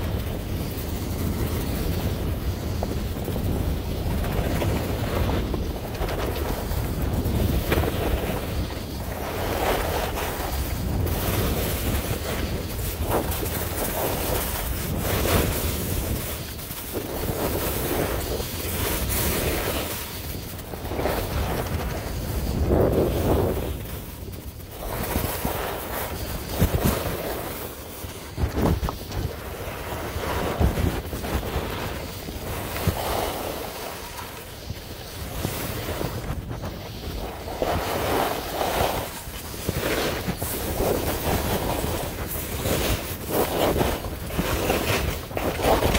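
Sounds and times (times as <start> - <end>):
skis scraping over snow: 0.0 - 45.9
wind buffeting microphone: 0.0 - 45.9.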